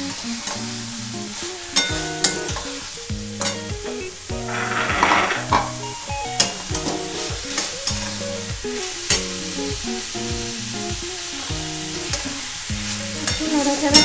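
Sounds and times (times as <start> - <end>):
background music melody: 0.0 - 14.0
light sizzle: 0.0 - 14.0.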